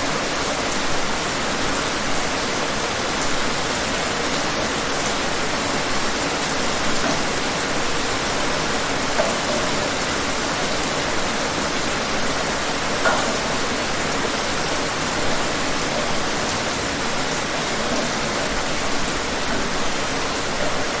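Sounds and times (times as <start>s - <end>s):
heavy rain pouring: 0.0s - 21.0s
rain drop splashes: 0.1s - 21.0s.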